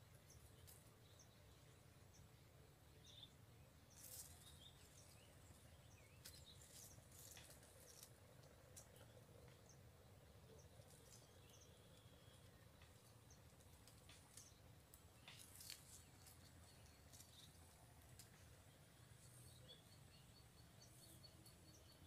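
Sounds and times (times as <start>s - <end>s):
faint bird chirps: 0.0s - 22.0s
light rustles and ticks: 0.1s - 2.3s, 3.8s - 19.8s.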